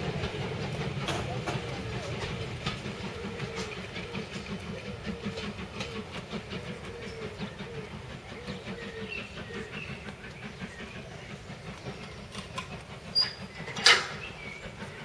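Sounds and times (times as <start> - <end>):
train coaches rumbling: 0.0 - 15.0
wheels clicking over rail joints: 0.0 - 15.0.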